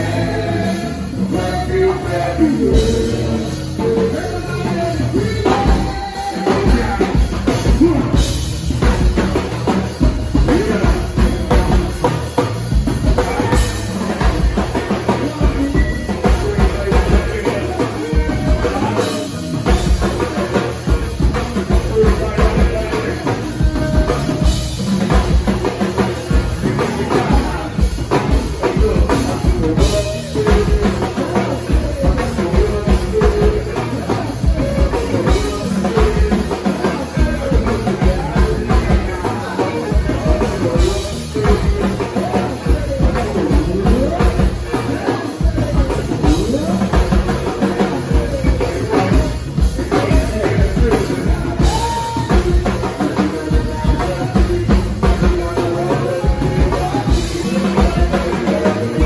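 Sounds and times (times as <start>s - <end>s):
congas: 0.0s - 59.0s
driving drum beat: 0.0s - 59.0s
live band playing: 0.0s - 59.0s.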